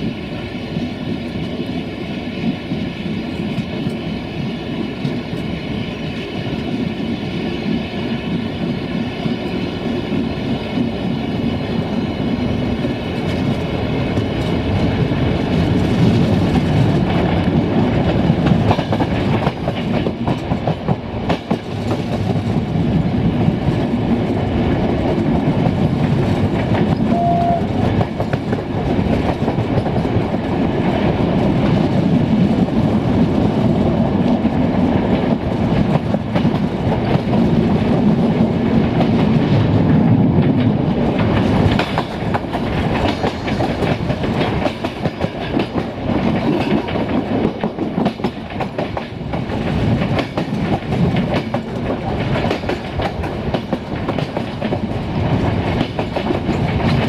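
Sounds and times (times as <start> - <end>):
train rolling rumble: 0.0 - 57.0
train wheels clicking over joints: 4.8 - 57.0.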